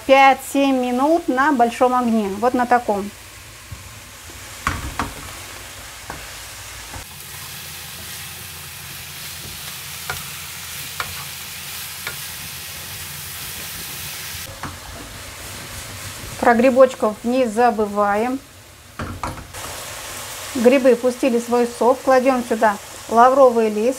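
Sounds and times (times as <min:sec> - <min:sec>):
vegetables sizzling in oil: 0:00.0 - 0:23.9.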